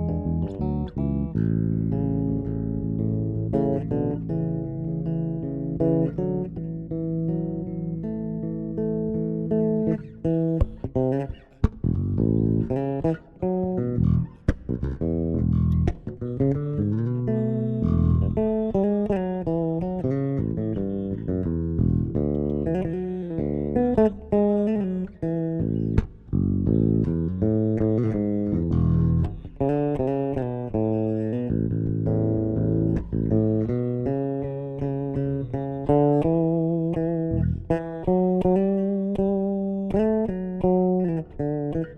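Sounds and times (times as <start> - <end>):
solo bass guitar melody: 0.0 - 41.9.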